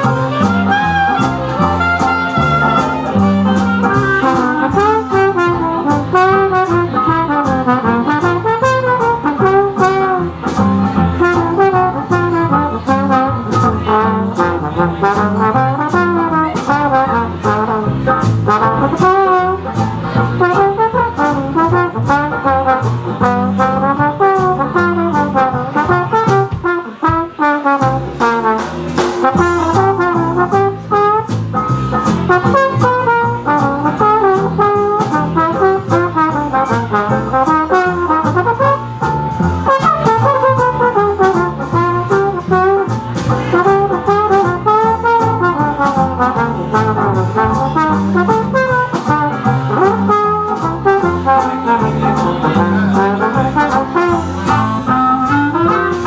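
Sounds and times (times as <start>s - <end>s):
double bass: 0.0s - 56.0s
trombone melody: 0.0s - 56.0s.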